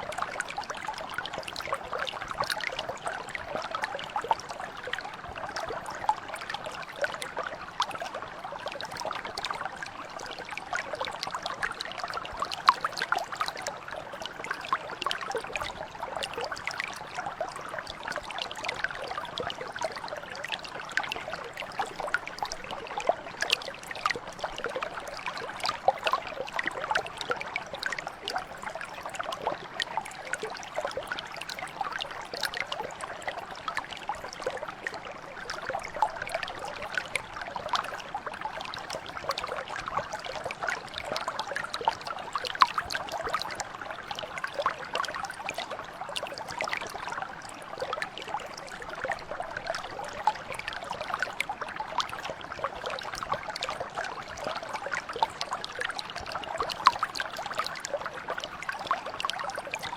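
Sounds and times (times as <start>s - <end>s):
mountain stream babbling over stones: 0.0s - 59.9s.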